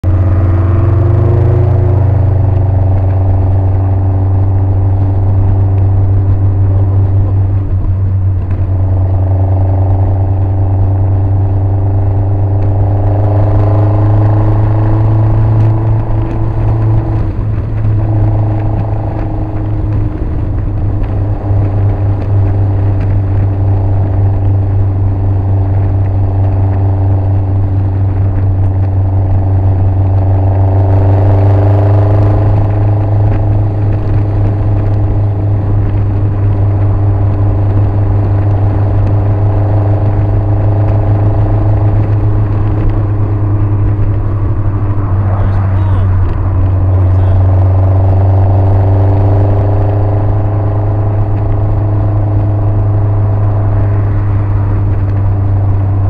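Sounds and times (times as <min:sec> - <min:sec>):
car engine droning: 0:00.0 - 0:56.0
road noise: 0:00.0 - 0:56.0.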